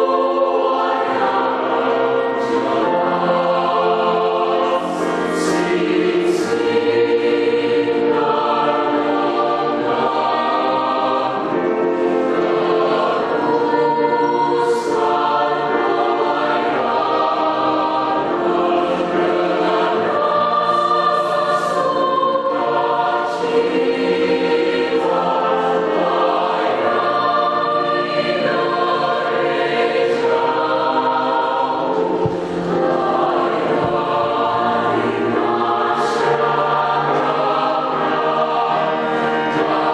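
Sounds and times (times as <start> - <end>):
choir singing a hymn: 0.0 - 39.9
piano accompaniment: 0.0 - 39.9.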